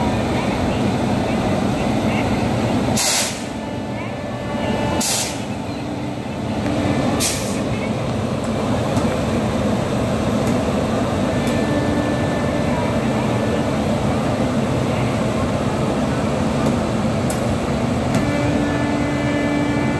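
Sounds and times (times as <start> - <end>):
locomotive machinery humming: 0.0 - 19.9.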